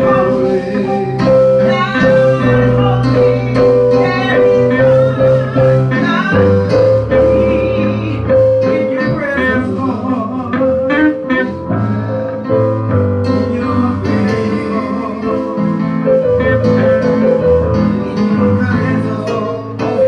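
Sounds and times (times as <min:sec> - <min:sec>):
bass line: 0:00.0 - 0:20.0.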